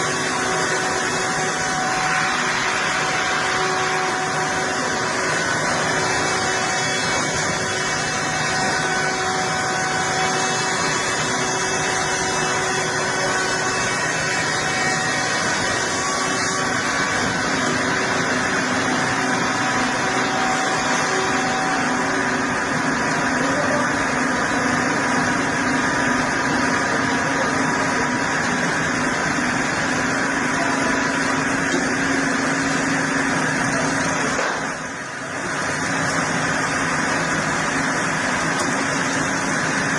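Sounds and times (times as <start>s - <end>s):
wood-processing machine humming: 0.0s - 39.9s.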